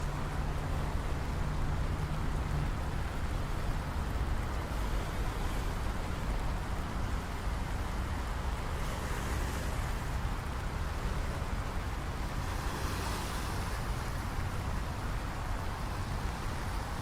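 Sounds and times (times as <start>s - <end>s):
passing traffic rumble: 0.0s - 17.0s
steady rain hiss: 0.0s - 17.0s.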